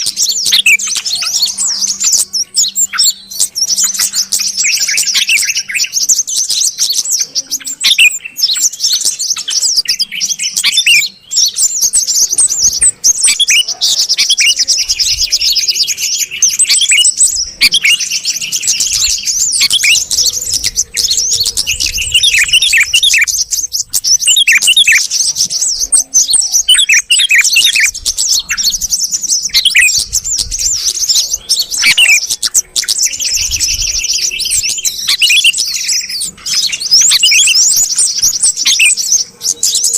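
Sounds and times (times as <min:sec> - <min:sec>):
bulbuls chattering and chirping: 0:00.0 - 0:39.9.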